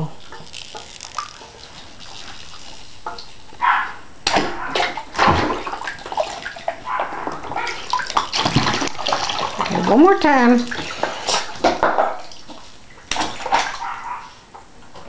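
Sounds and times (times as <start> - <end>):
bathwater splashing and sloshing: 0.0 - 14.5.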